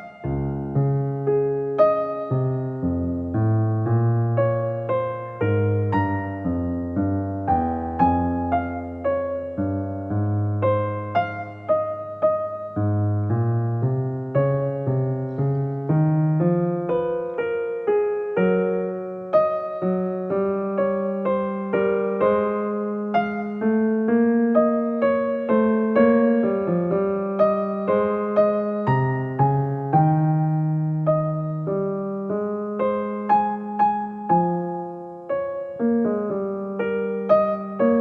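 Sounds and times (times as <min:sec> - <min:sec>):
soft electric piano melody: 0:00.0 - 0:38.0.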